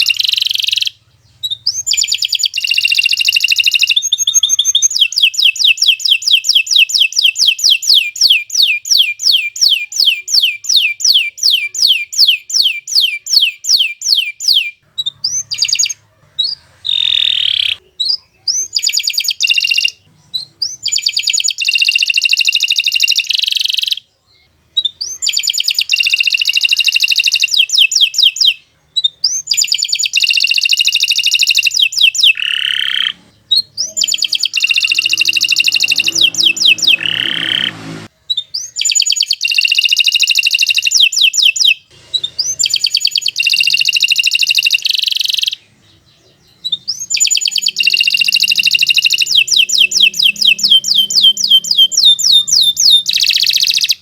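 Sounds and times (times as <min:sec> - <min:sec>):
canary trilling song: 0:00.0 - 0:54.0.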